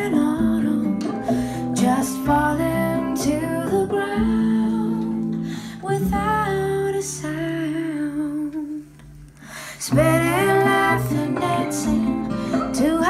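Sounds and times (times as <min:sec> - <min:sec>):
acoustic guitar music: 0:00.0 - 0:13.0
woman singing softly: 0:00.0 - 0:13.0.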